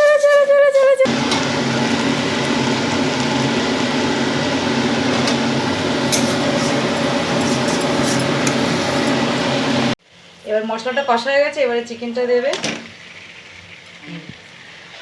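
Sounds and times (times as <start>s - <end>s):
mechanical hum: 0.0s - 15.0s
spices sizzling in a pan: 1.1s - 9.9s, 11.1s - 15.0s.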